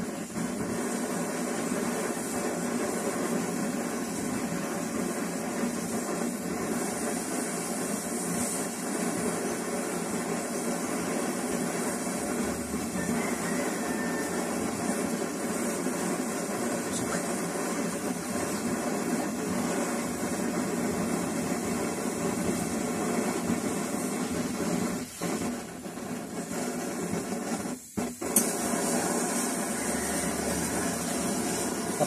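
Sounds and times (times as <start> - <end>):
stove burner rushing: 0.0 - 32.0.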